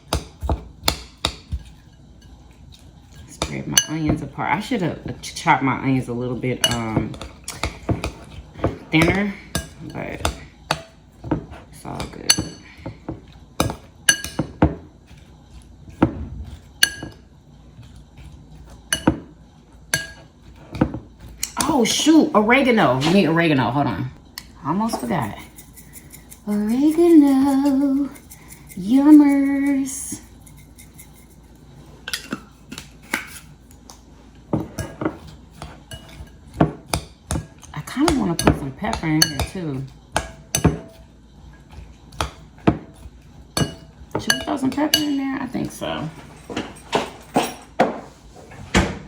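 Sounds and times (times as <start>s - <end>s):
utensil clinking against bowl: 0.0s - 23.4s, 24.3s - 48.0s.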